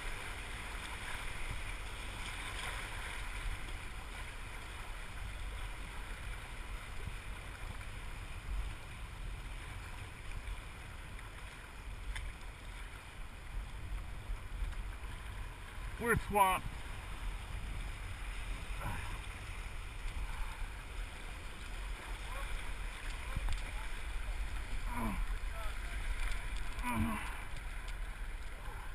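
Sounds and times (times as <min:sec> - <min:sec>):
river water rushing along hull: 0:00.0 - 0:28.9
wind rumbling on microphone: 0:00.0 - 0:28.9.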